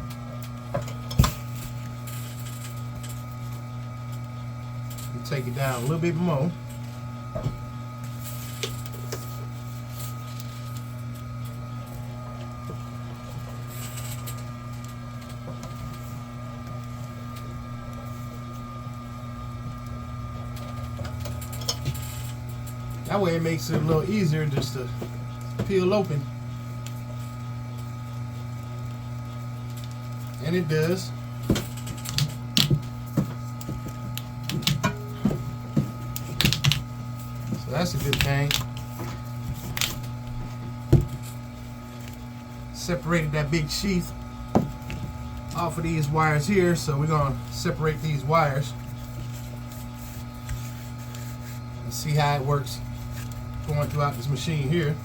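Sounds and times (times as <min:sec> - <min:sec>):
wire stripping machine motor humming: 0:00.0 - 0:55.0.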